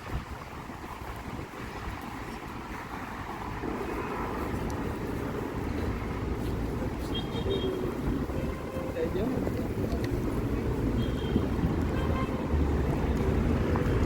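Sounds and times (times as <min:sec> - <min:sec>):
passing vehicles rumble: 0:00.0 - 0:14.0
wind buffeting microphone: 0:00.0 - 0:14.0.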